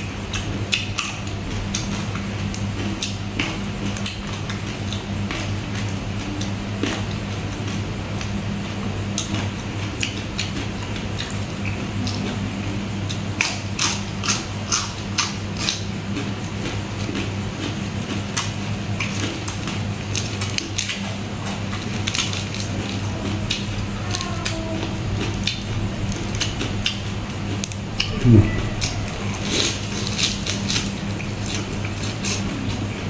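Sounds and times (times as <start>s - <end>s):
low electrical hum: 0.0s - 33.0s
chewing crunchy vegetables: 0.1s - 33.0s.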